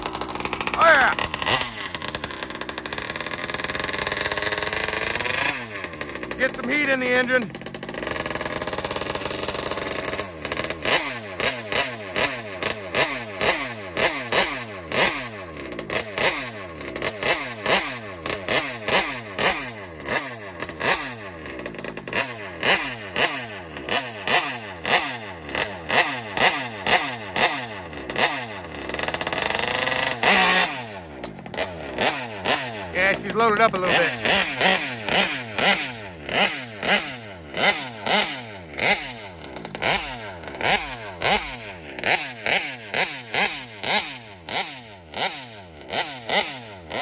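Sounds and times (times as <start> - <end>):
small two-stroke engine revving: 0.0 - 47.0.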